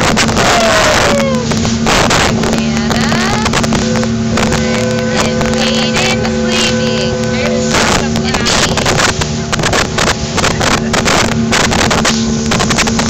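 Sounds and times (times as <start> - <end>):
boat motor humming: 0.0 - 13.0
water rushing past hull: 0.0 - 13.0
wind buffeting microphone: 0.0 - 13.0.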